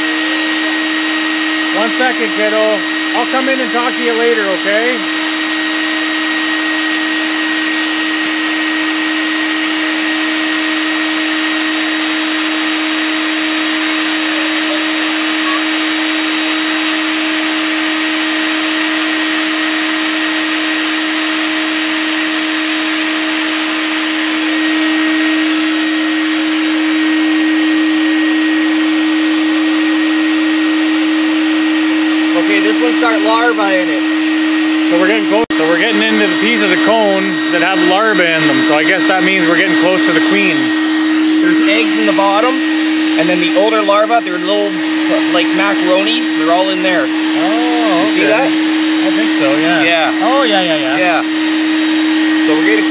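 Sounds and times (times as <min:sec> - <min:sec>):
vacuum motor humming: 0:00.0 - 0:52.9.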